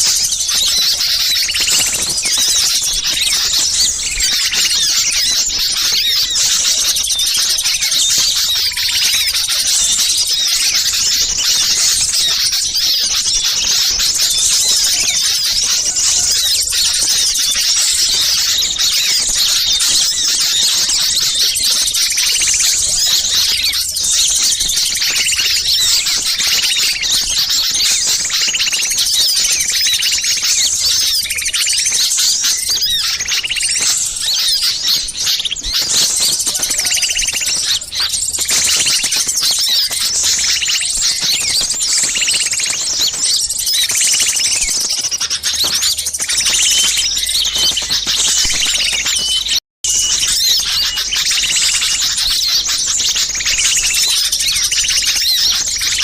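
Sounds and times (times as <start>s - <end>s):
lower bird call: 0.0s - 56.0s
songbirds chirping in agitation: 0.0s - 56.0s.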